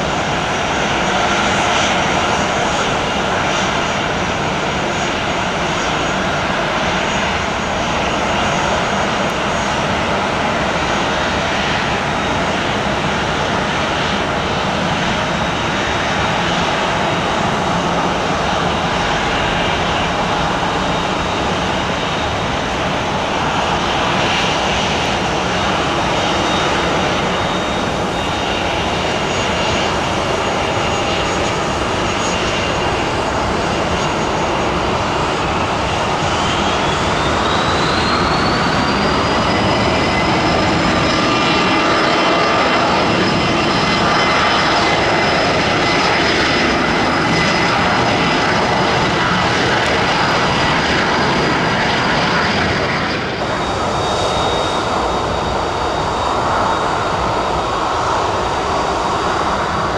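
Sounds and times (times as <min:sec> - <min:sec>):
high engine whine: 0:00.0 - 0:59.9
jet engines running: 0:00.0 - 0:59.9.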